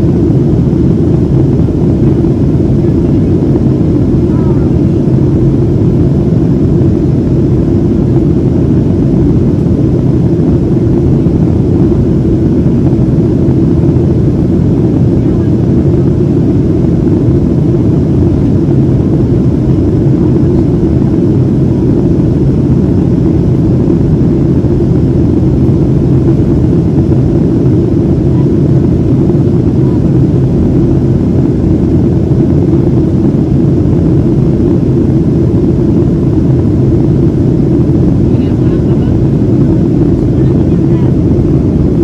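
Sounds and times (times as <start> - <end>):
airplane cabin jet engine rush: 0.0 - 42.0.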